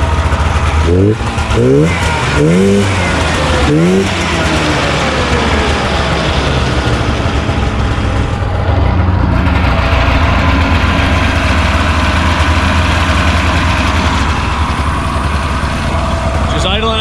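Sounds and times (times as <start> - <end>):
snowmobile engine idling: 0.0 - 17.0.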